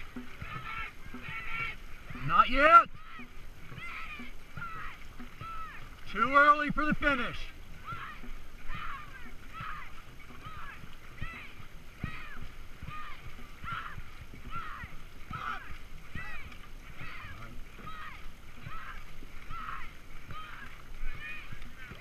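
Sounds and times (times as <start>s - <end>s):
geese honking: 0.0s - 22.0s
paddle strokes splashing in water: 0.0s - 22.0s.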